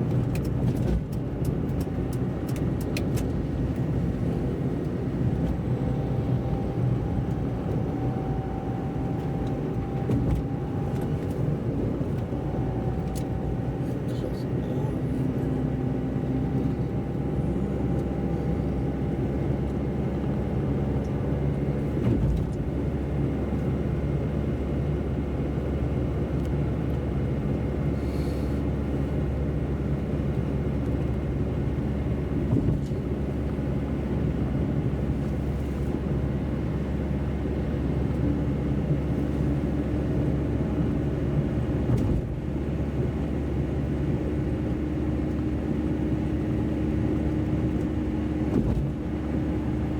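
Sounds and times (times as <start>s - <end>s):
engine and tyres rumbling: 0.0s - 49.9s.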